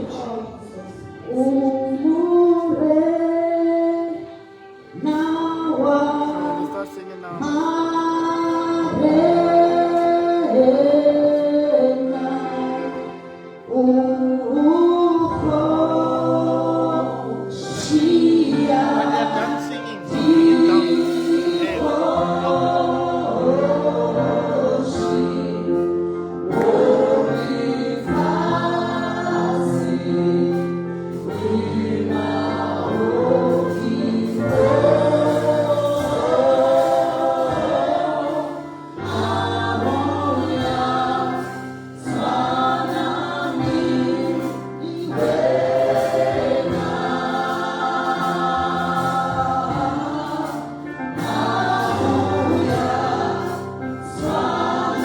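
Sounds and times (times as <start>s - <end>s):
choir singing a gospel song: 0.0s - 55.0s.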